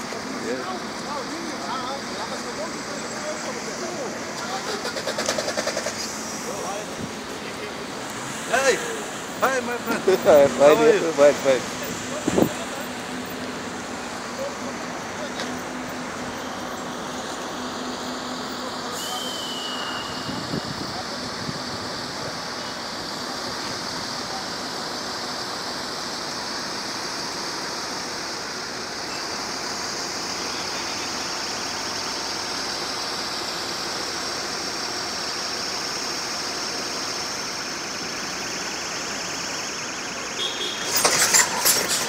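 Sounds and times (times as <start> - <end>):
truck engine and tyre noise: 0.0 - 42.0.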